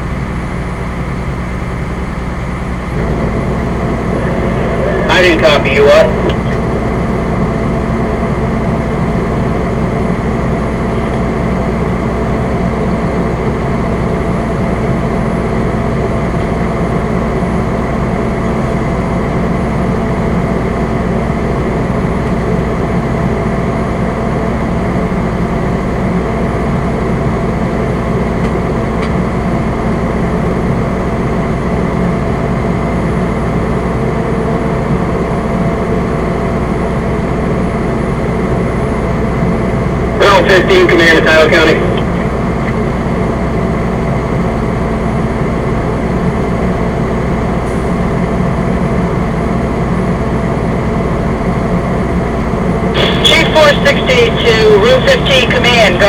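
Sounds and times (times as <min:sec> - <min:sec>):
fire engine running in cab: 0:00.0 - 0:56.0.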